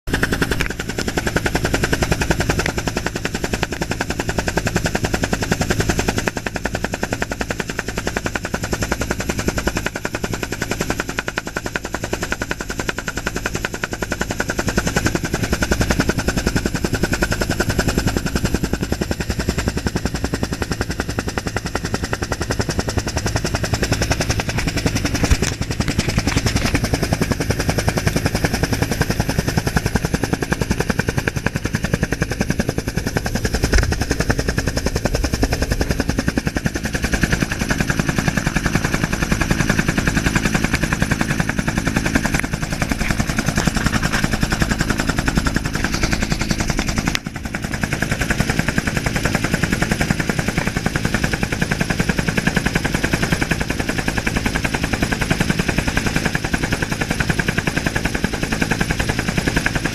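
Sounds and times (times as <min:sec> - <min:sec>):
helicopter engine running: 0:00.0 - 0:59.9
helicopter rotor blades chopping: 0:00.0 - 0:59.9.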